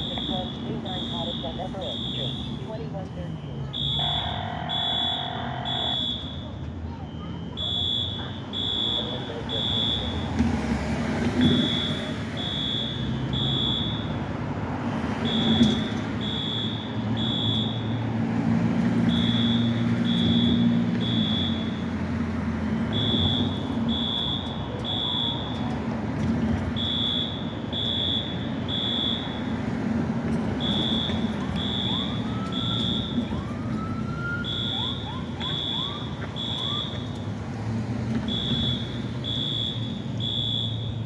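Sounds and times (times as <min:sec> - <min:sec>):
fire alarm high beeps: 0:00.0 - 0:10.4, 0:11.4 - 0:18.2, 0:19.0 - 0:22.0, 0:22.8 - 0:37.3, 0:38.1 - 0:41.0.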